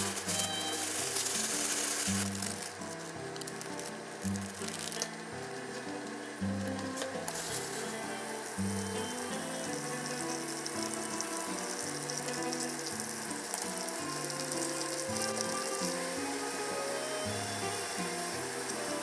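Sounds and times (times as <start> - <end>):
background music: 0.0 - 19.0
food sizzling in oil: 0.0 - 19.0.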